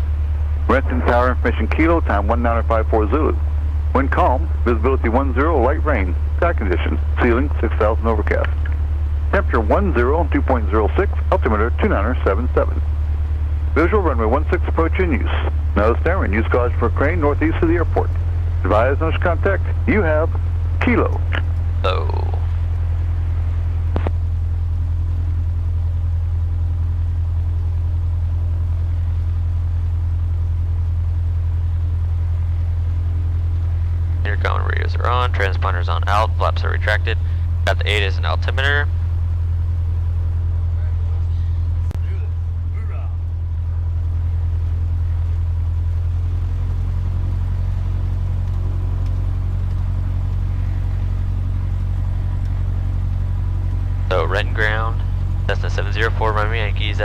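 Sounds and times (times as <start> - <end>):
aircraft engine idling: 0.0 - 57.0.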